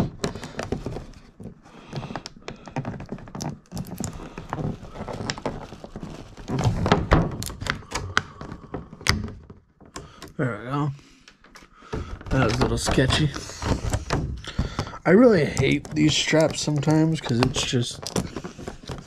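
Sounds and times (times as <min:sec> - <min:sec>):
plastic toy packaging handled: 0:00.0 - 0:10.1, 0:11.9 - 0:19.0.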